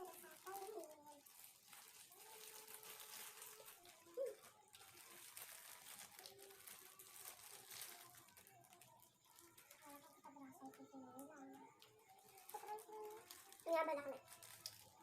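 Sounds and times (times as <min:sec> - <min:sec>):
light crinkling: 0:00.0 - 0:15.0.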